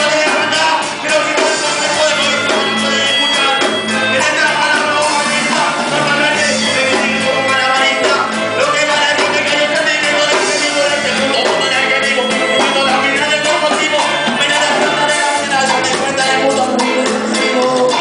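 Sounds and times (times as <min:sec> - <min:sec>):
song with busy beat: 0:00.0 - 0:18.0.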